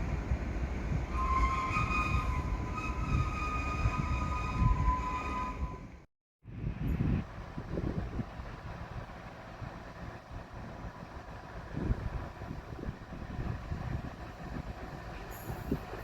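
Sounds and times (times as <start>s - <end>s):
train rumbling past: 0.0s - 6.1s, 7.2s - 16.0s.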